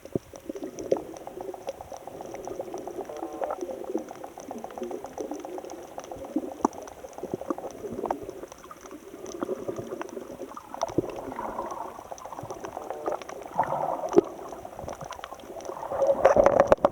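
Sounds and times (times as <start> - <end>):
sea water gurgling and sloshing: 0.0 - 16.9
small clicks: 0.0 - 16.9.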